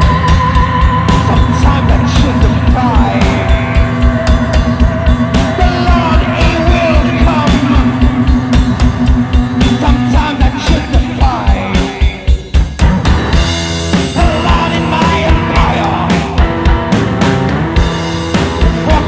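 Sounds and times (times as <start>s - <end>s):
drum kit with kick-drum beat: 0.0s - 19.0s
electric guitar: 0.0s - 19.0s.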